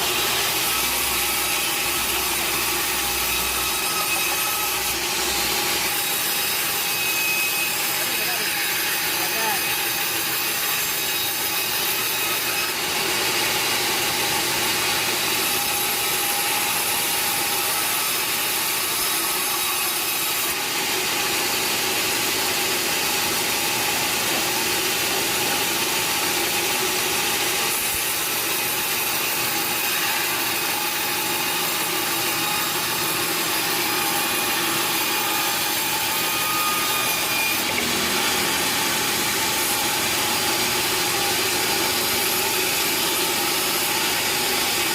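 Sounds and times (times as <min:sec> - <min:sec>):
sawmill saw cutting wood: 0:00.0 - 0:44.9.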